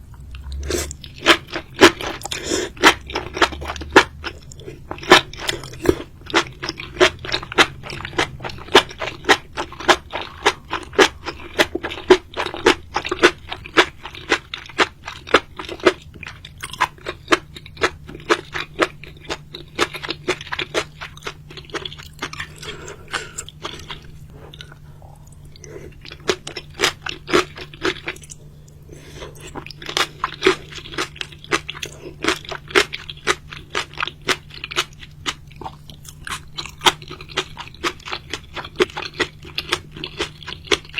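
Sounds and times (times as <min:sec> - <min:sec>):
faint low hum: 0:00.0 - 0:40.9
crunchy chewing: 0:00.1 - 0:40.9.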